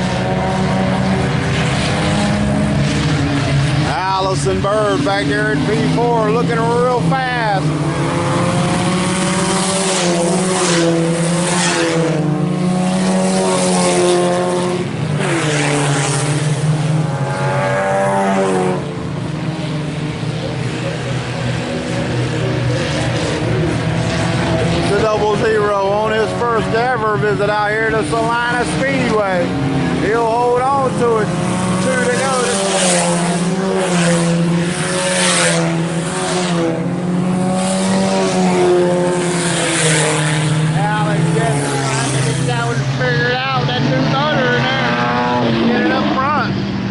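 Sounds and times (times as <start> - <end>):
race car engines passing: 0.0 - 46.9.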